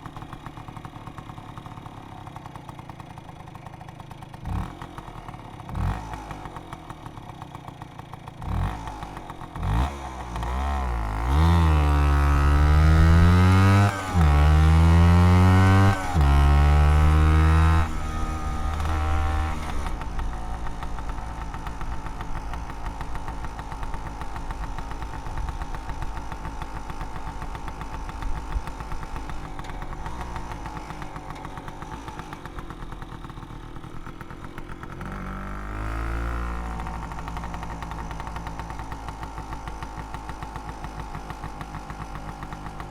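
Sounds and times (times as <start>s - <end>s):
scooter engine idling and revving: 0.0s - 42.9s.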